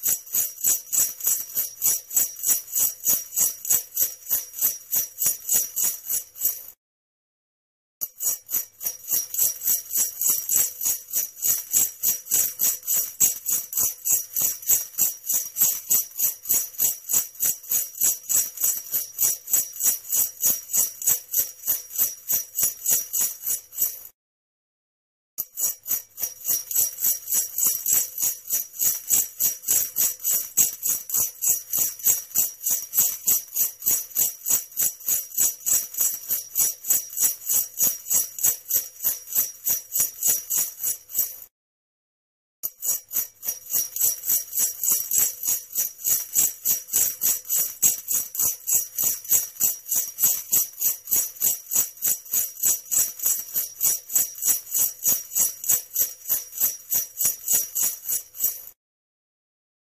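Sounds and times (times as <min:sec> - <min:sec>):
sleigh bells jingling: 0:00.0 - 0:06.7, 0:08.0 - 0:24.1, 0:25.4 - 0:41.5, 0:42.7 - 0:58.8.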